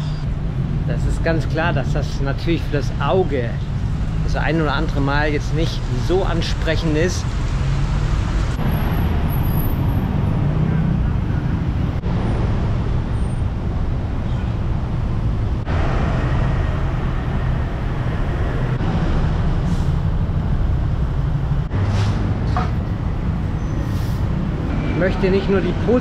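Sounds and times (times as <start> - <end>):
city street traffic noise: 0.0 - 26.0.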